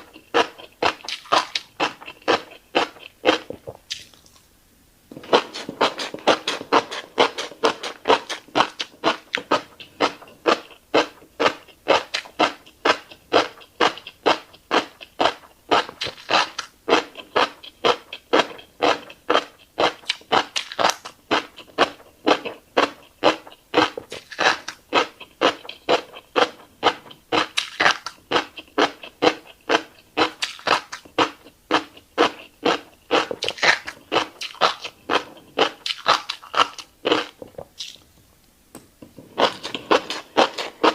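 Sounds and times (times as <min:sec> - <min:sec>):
wet crunchy chewing: 0:00.0 - 0:04.5, 0:05.1 - 0:38.0, 0:39.3 - 0:40.9.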